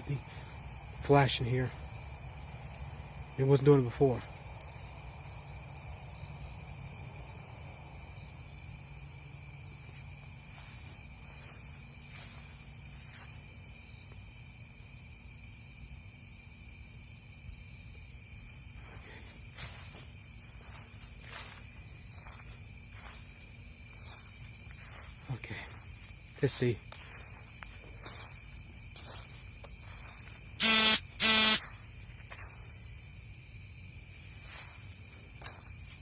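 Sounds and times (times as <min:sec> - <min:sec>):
crickets and insects trilling: 0:00.0 - 0:36.0.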